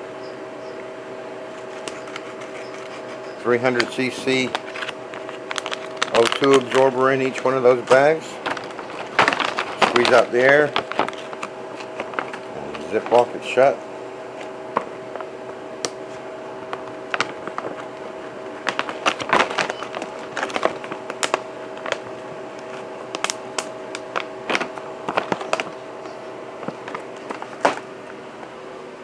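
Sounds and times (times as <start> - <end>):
steady low hum: 0.0 - 29.0
plastic bag crinkling: 1.6 - 13.6, 16.7 - 27.9.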